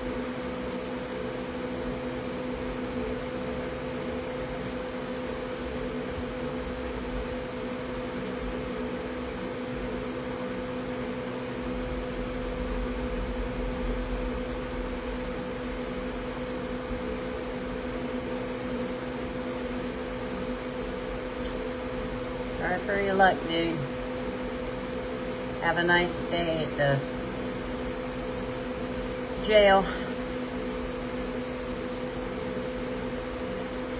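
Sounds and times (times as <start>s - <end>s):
machine hum: 0.0s - 33.9s.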